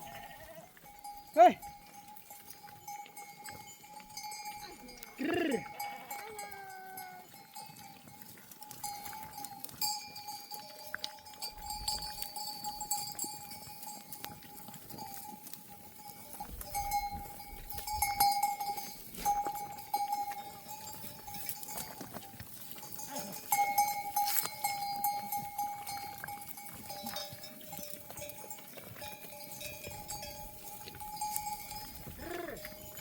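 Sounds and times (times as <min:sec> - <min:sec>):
sheep bells clanking and jingling: 0:00.0 - 0:33.0
bell ringing steadily: 0:00.9 - 0:14.2, 0:15.0 - 0:22.0, 0:22.9 - 0:33.0.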